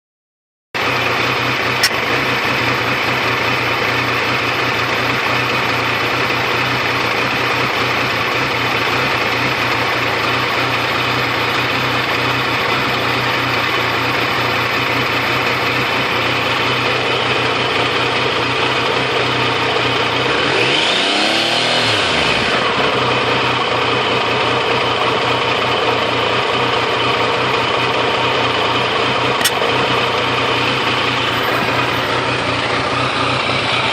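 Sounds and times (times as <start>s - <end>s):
motorcycle engine idling roughly: 0.8s - 33.9s.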